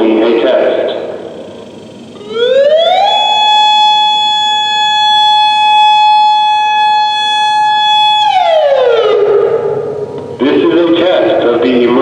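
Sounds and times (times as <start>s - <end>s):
warning siren steady tone: 0.0s - 10.9s.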